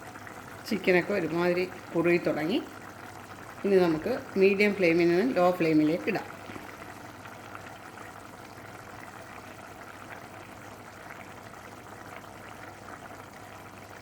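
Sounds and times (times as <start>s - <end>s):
thick sauce bubbling in a pan: 0.0s - 14.0s.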